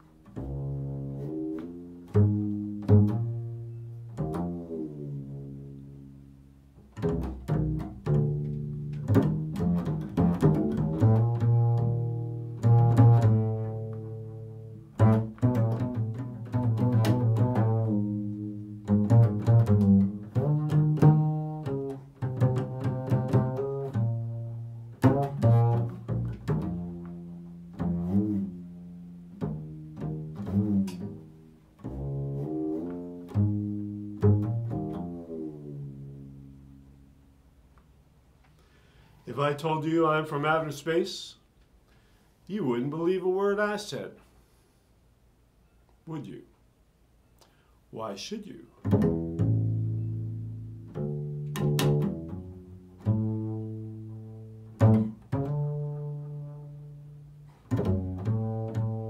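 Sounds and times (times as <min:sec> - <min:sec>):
low plucked string instrument: 0:00.0 - 0:37.9, 0:48.8 - 0:59.0.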